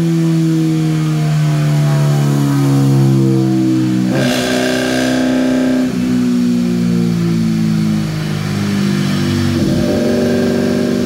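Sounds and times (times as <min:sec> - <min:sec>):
car engine on dyno: 0:00.0 - 0:11.0.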